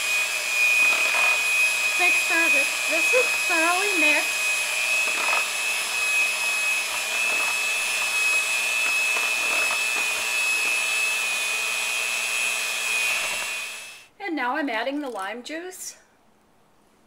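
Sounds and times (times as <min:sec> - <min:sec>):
electric mixer whining: 0:00.0 - 0:14.1.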